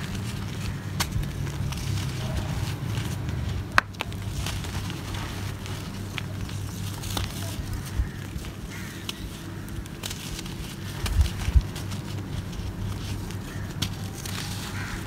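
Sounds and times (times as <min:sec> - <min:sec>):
dry soil crunching in hands: 0:00.0 - 0:15.0.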